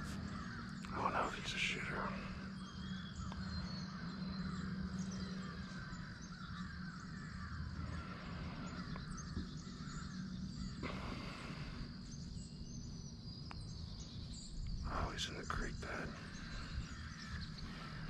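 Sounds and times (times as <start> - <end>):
distant crow-like bird calls: 0.0 - 18.0.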